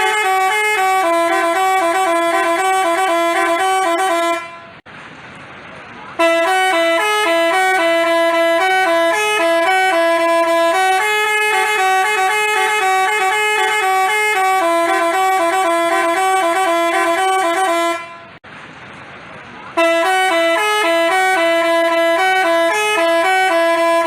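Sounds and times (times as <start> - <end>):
musical bus horn playing a tune: 0.0 - 4.8, 6.2 - 18.4, 19.8 - 24.0.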